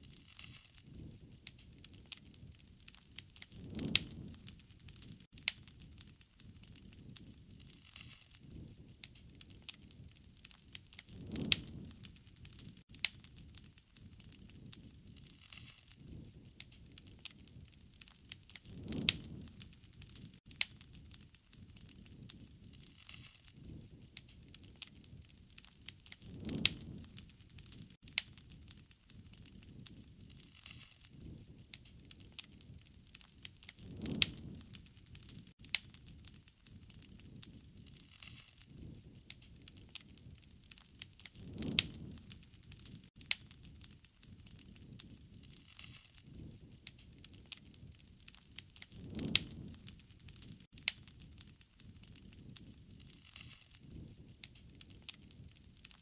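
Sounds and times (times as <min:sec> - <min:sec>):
low rush of flame: 0:00.0 - 0:56.0
wood fire crackling and popping: 0:00.0 - 0:56.0.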